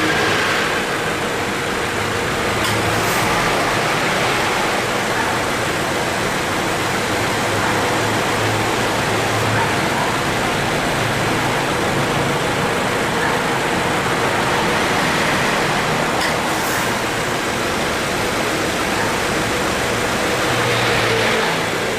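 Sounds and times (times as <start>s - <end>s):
air conditioning compressor noise: 0.0s - 21.9s
cooling fan rushing: 0.0s - 21.9s.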